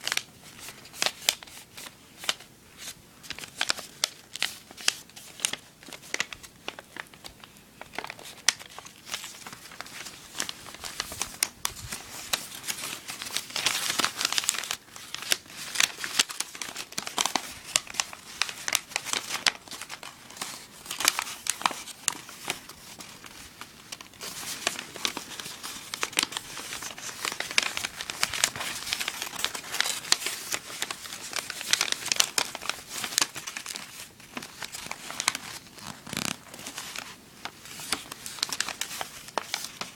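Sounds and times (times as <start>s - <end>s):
paper crinkling and rustling: 0.0s - 39.9s.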